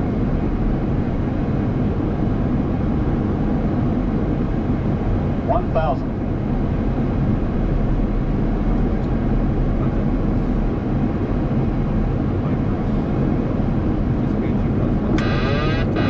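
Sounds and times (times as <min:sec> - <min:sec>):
aircraft cockpit air and engine rush: 0:00.0 - 0:16.0.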